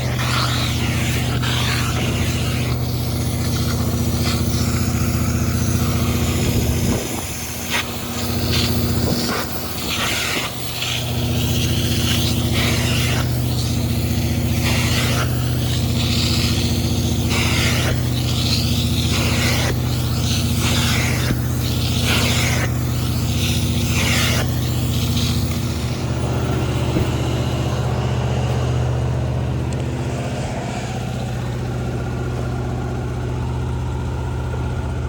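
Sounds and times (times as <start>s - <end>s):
suction wand hissing: 0.0s - 28.7s
carpet extraction machine humming: 0.0s - 35.0s.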